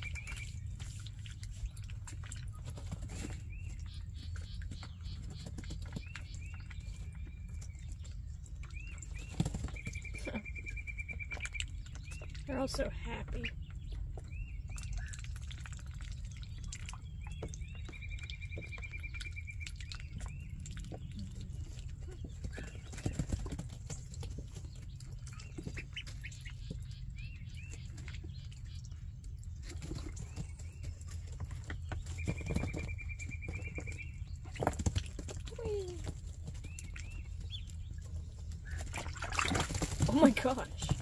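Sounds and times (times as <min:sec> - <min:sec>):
ducklings and goslings peeping: 0:00.0 - 0:23.6, 0:24.2 - 0:36.0, 0:36.6 - 0:41.0
water splashing and pattering: 0:00.0 - 0:32.8, 0:34.2 - 0:41.0.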